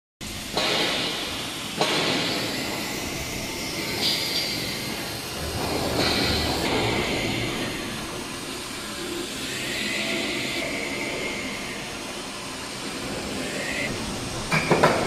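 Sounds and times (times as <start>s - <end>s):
lathe grinding noise: 2.1s - 15.0s.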